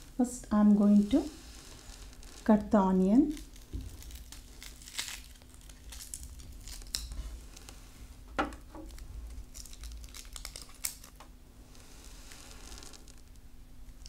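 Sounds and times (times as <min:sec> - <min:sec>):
onion skin crackling: 0:00.0 - 0:08.0, 0:08.6 - 0:14.0.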